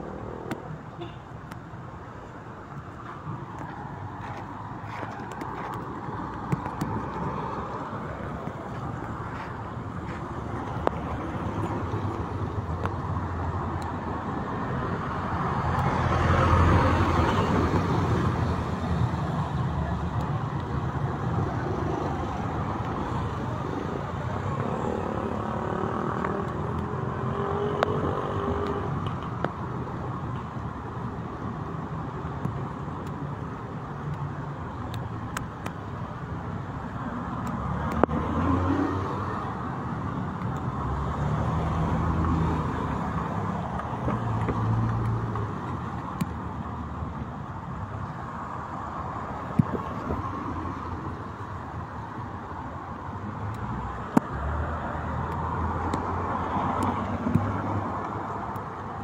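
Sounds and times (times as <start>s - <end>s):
car engines passing: 0.0s - 59.0s
tyres on wet road: 0.0s - 59.0s.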